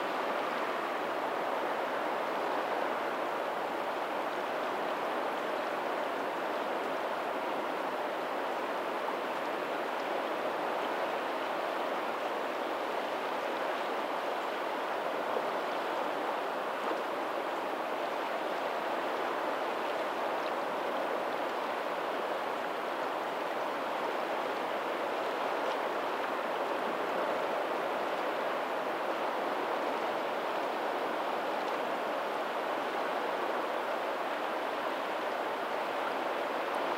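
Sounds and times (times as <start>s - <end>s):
faint ocean surf: 0.0s - 36.9s.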